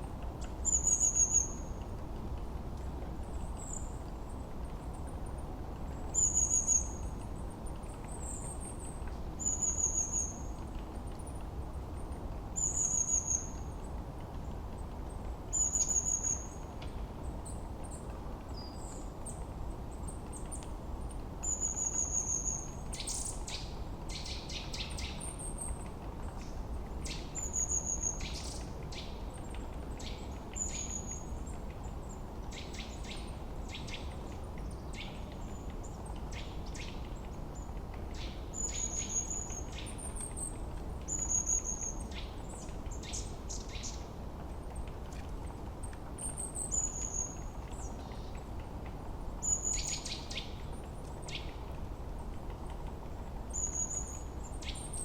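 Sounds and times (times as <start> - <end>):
background hiss: 0.0 - 55.0.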